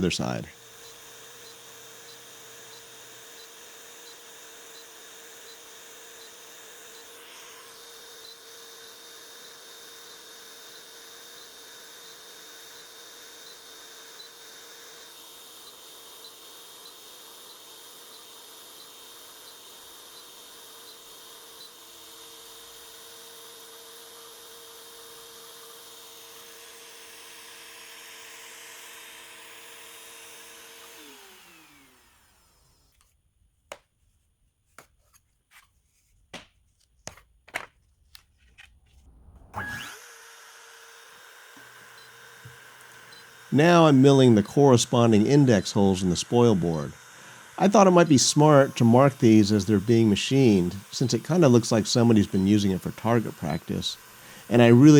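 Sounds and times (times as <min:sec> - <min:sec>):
router spindle whining: 0:00.0 - 0:33.8, 0:37.6 - 0:54.9.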